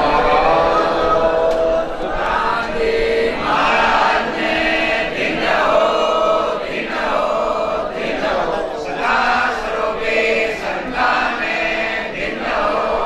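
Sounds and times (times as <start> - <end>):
group chanting: 0.0 - 13.0.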